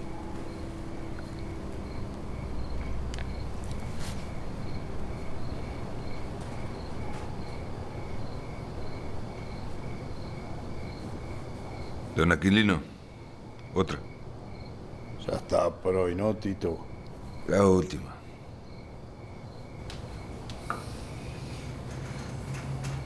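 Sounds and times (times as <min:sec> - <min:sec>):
cricket chirping: 0:00.0 - 0:23.0
low room hum: 0:00.0 - 0:23.0.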